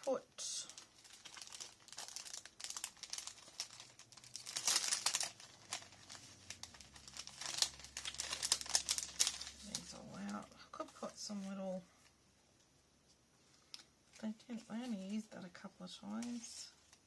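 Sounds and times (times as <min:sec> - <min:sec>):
paper rustling and crinkling: 0:00.6 - 0:12.1, 0:13.5 - 0:17.0.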